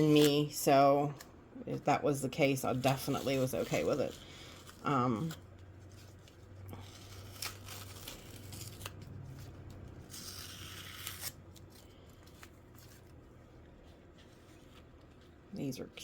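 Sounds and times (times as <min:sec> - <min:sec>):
packing material rustling: 0:02.8 - 0:16.0.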